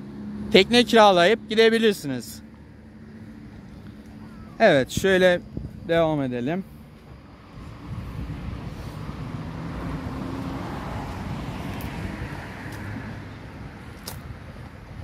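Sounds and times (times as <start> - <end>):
motor vehicle passing: 0.0 - 15.0
outdoor background rumble: 0.0 - 15.0.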